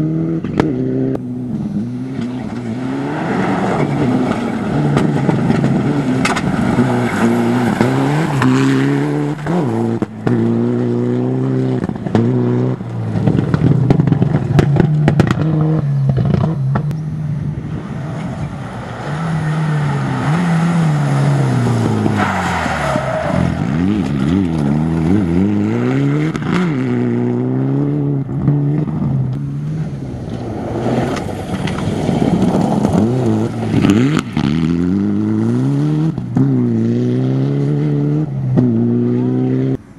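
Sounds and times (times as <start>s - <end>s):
rally car engine revving: 0.0s - 39.9s
gravel scraping under tyres: 0.4s - 39.9s.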